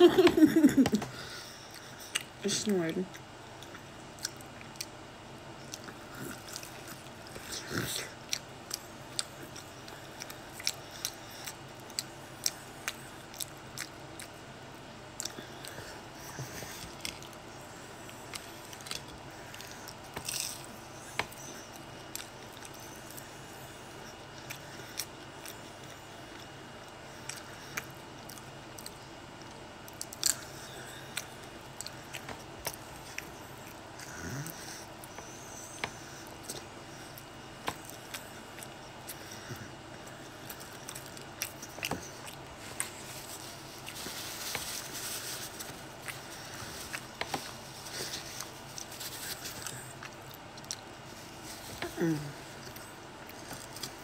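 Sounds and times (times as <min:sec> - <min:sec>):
person chewing food: 0:00.0 - 0:02.4, 0:03.0 - 0:54.0.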